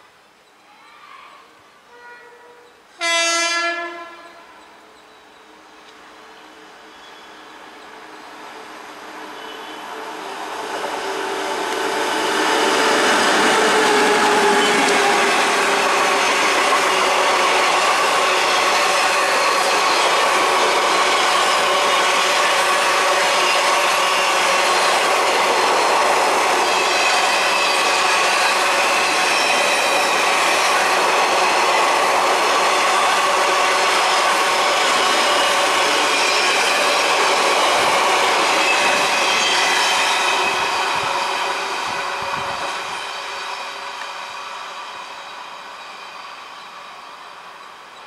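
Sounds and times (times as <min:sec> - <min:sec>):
passenger train passing at speed: 0:01.9 - 0:48.0.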